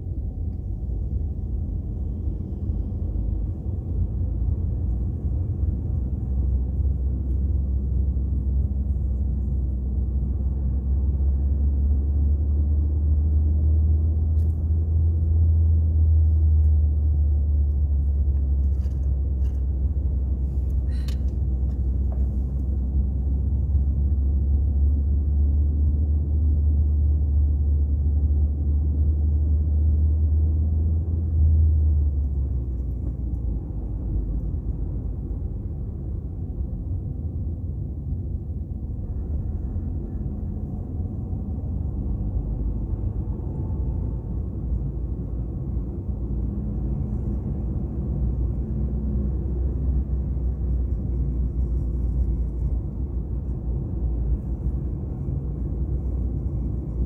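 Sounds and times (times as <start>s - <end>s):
car cabin engine and road rumble: 0.0s - 57.0s.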